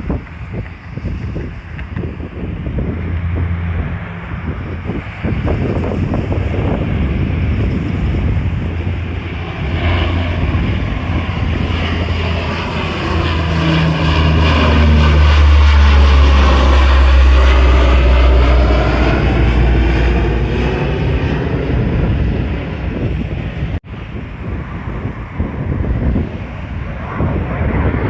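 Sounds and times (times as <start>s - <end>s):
propeller aircraft flying past: 0.0s - 28.0s.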